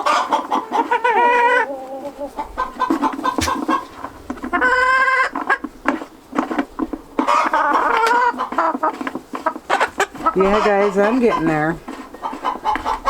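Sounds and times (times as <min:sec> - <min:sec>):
chicken squawk: 0:00.0 - 0:05.6, 0:07.2 - 0:13.0
chickens clucking: 0:00.0 - 0:13.0.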